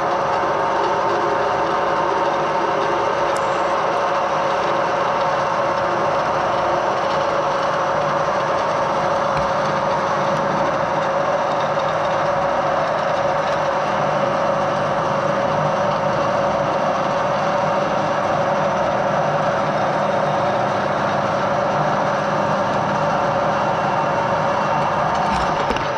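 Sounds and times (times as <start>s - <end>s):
metal lathe running: 0.0s - 25.9s.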